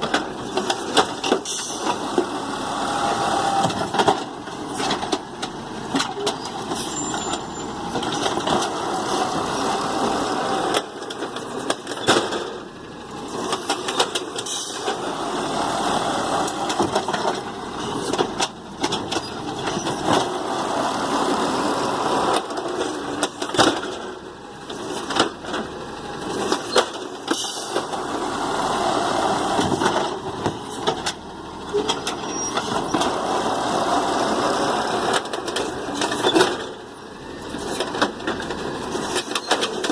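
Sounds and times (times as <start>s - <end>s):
garbage truck engine revving: 0.1s - 39.9s.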